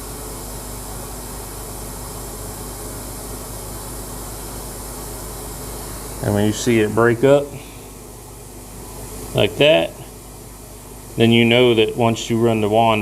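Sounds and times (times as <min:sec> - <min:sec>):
carpet extraction machine hissing: 0:00.0 - 0:13.0.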